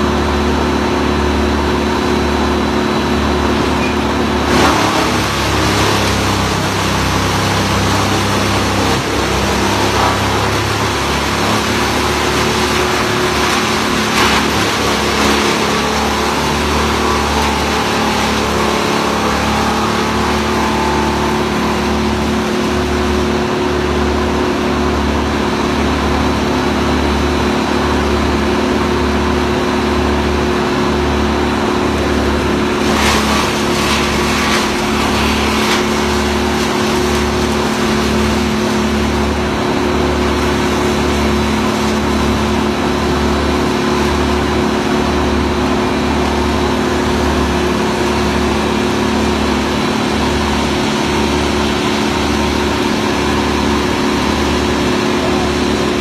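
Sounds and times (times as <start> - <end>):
large engine running steadily: 0.0 - 56.0.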